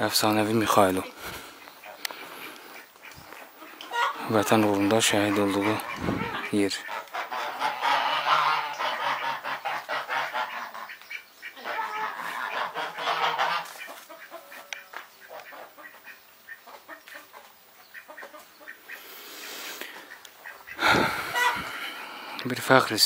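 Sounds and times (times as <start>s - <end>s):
birds chattering: 0.0s - 23.0s.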